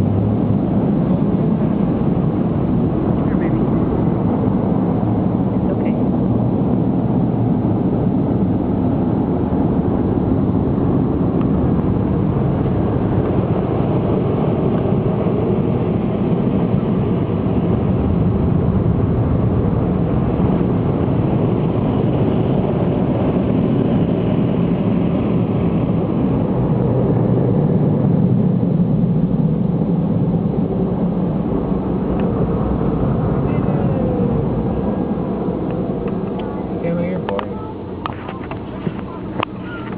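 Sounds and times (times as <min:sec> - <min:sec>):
car wash machinery rumbling: 0:00.0 - 0:39.9.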